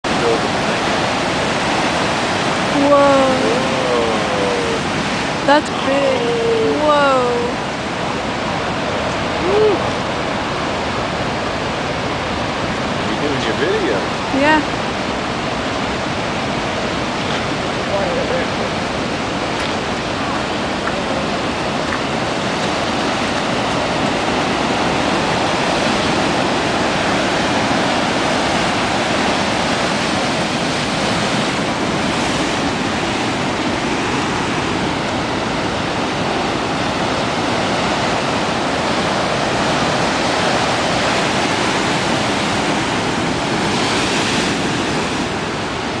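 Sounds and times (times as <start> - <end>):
ocean waves breaking: 0.0 - 46.0.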